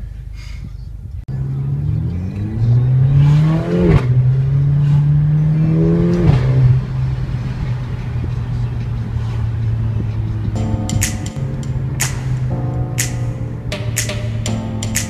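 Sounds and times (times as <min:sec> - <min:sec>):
car engine accelerating: 0:01.3 - 0:15.0.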